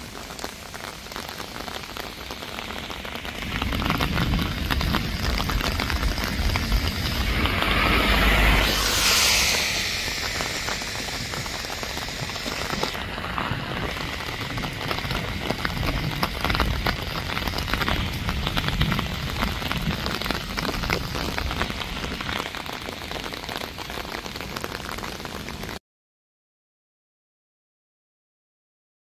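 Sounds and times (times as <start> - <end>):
heavy rain hiss: 0.0 - 25.8
raindrop hits: 0.0 - 25.8.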